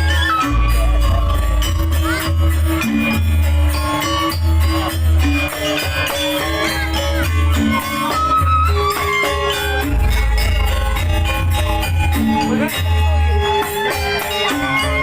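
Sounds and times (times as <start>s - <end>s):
melodic pitched instruments: 0.0s - 15.0s
sharp percussion strokes: 0.0s - 15.0s.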